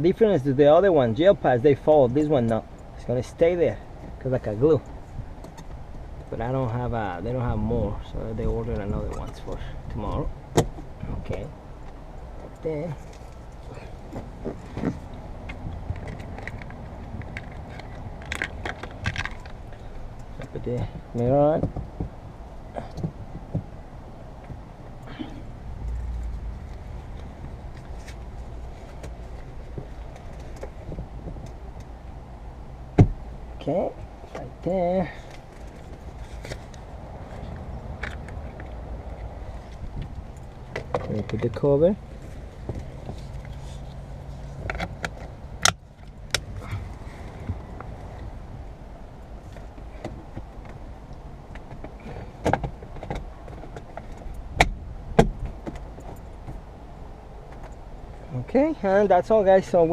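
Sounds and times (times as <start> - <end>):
low steady hum: 0.0 - 59.9
steady low rumble: 0.0 - 59.9.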